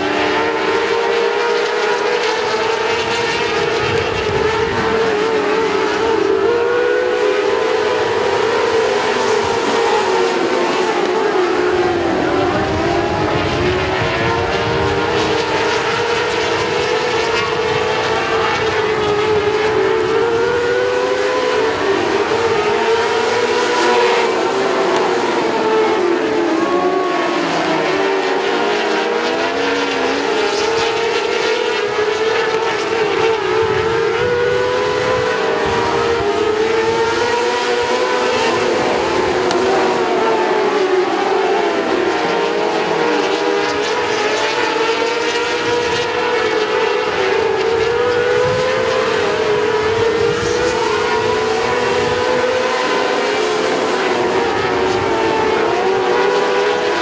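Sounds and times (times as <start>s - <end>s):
racing car engines at high revs: 0.0s - 57.0s.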